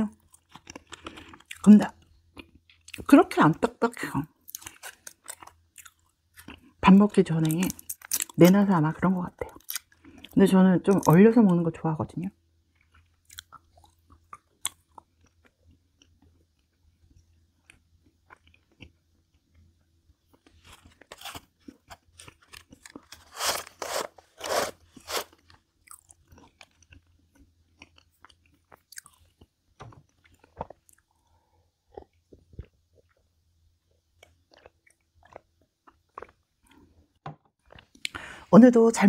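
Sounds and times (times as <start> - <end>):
person chewing and crunching food: 0.0 - 8.7, 9.3 - 11.2, 12.6 - 38.4.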